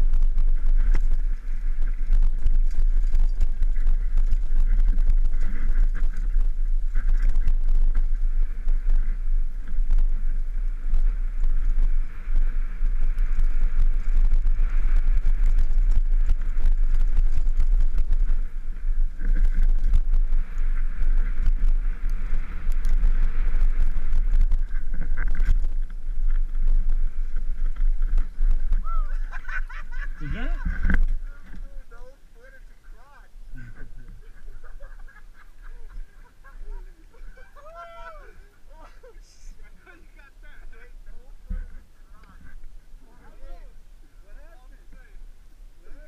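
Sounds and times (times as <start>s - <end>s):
bike rattling on rough trail: 0.0s - 38.0s
wind buffeting microphone: 0.0s - 39.9s.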